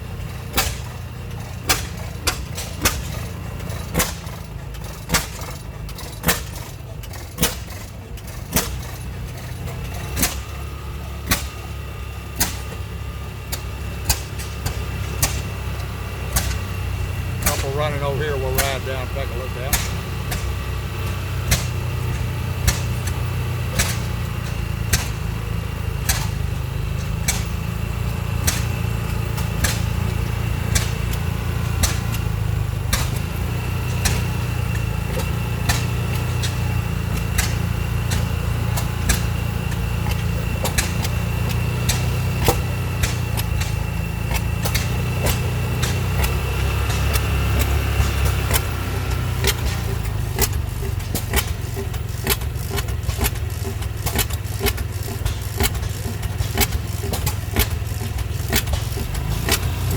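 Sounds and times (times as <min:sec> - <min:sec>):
engine exhaust pops: 0:00.0 - 0:59.9
low engine rumble: 0:00.0 - 0:59.9.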